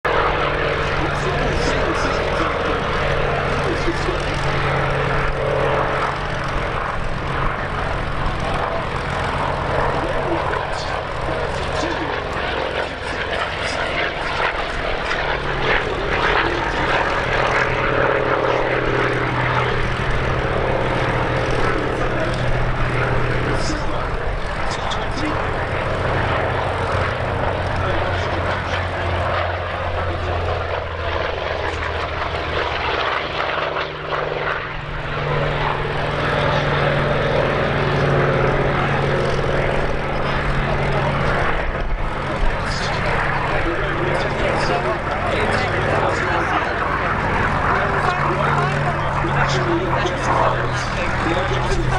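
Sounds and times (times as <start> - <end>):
propeller aircraft engine droning: 0.0 - 51.9.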